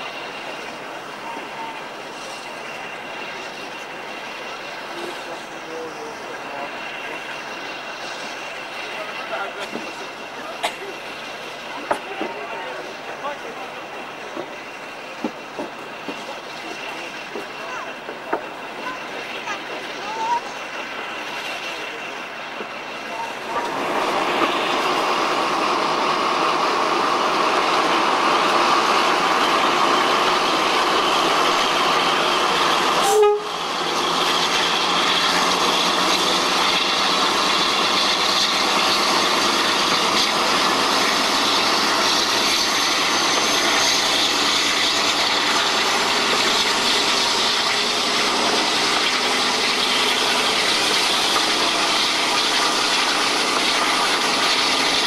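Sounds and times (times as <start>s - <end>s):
locomotive engine running: 0.0s - 55.0s.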